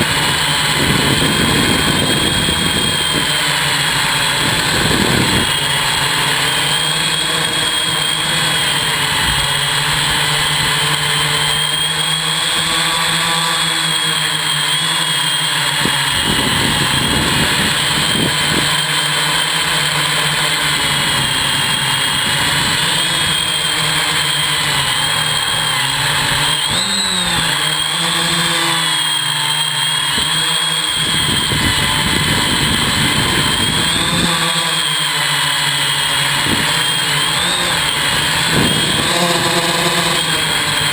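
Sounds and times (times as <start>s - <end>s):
drone motors buzzing in flight: 0.0s - 40.9s.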